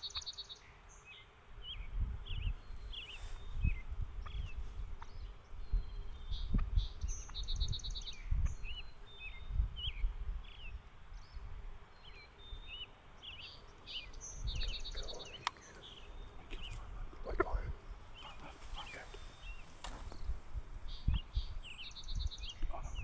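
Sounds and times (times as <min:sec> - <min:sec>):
songbirds chirping and trilling: 0:00.0 - 0:23.0
wind rumble on microphone: 0:01.5 - 0:23.0.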